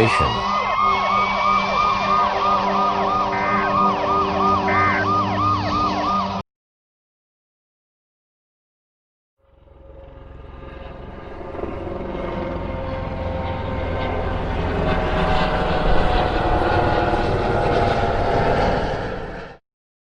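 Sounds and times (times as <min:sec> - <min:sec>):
aircraft engine drone: 0:00.0 - 0:06.4, 0:09.4 - 0:19.6.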